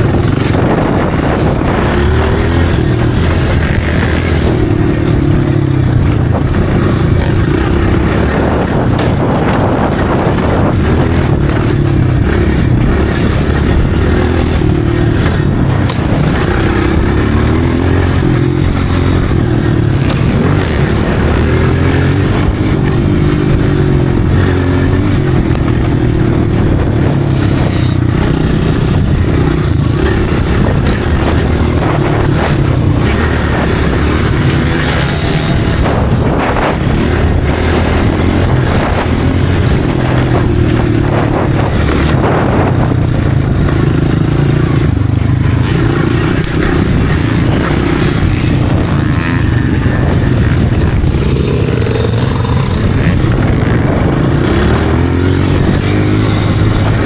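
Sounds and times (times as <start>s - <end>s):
dirt bike engine revving: 0.0s - 57.0s
knocks and clatter: 0.0s - 57.0s.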